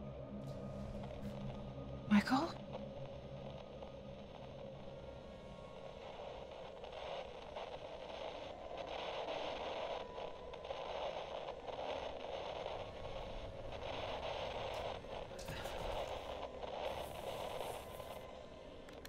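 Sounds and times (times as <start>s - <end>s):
static hiss: 0.9s - 19.0s.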